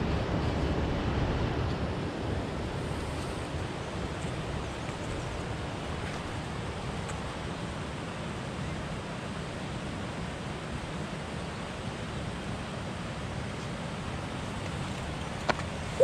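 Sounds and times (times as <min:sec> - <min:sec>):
river rushing: 0:00.1 - 0:16.0.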